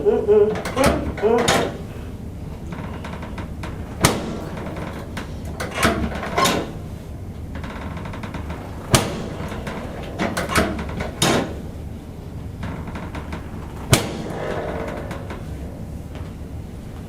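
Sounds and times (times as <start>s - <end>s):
spine cracking: 2.6s - 17.0s.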